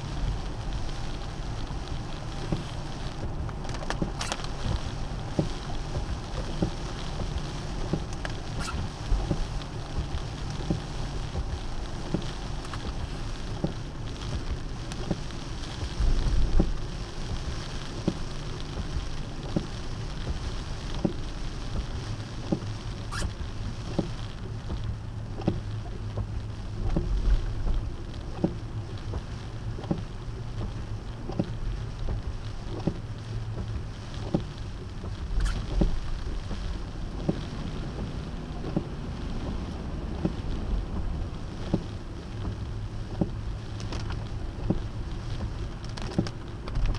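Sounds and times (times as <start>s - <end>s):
rain pattering: 0.0s - 46.9s
tyre and road noise: 0.0s - 46.9s.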